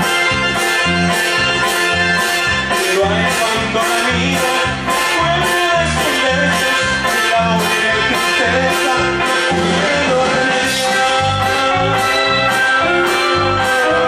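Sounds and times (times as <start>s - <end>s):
accordion melody: 0.0s - 14.0s
bass notes on a steady beat: 0.0s - 14.0s.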